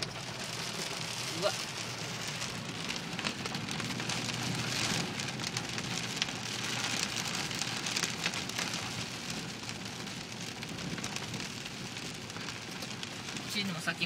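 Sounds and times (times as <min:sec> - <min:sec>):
heavy rain on car roof: 0:00.0 - 0:14.0.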